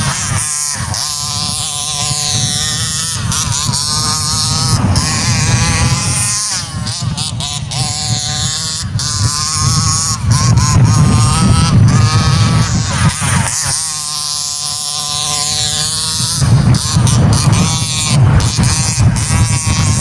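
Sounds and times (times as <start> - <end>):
two-stroke engine revving: 0.0 - 20.0
wind buffeting microphone: 0.0 - 20.0.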